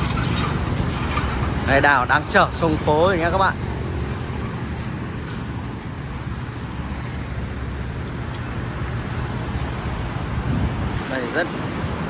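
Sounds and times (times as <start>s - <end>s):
roadway hiss: 0.0s - 12.0s
vehicle engine humming: 0.0s - 12.0s.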